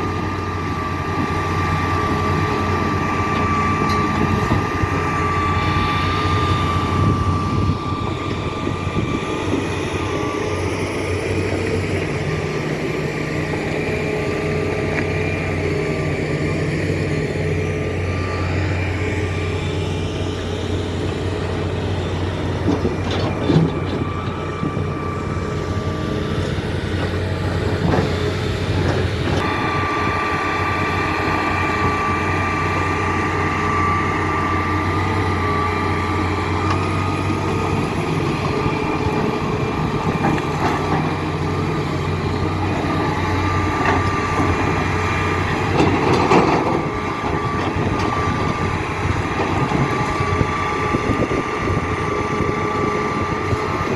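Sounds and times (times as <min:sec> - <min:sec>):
excavator diesel engine: 0:00.0 - 0:53.9.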